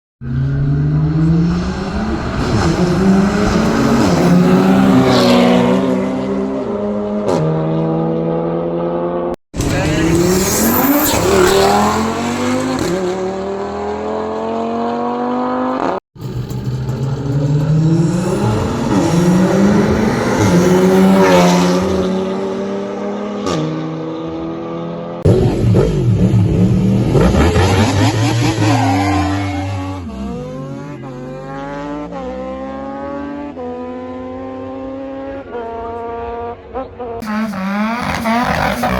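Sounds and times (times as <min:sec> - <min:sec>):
car engines accelerating: 0:00.2 - 0:38.9.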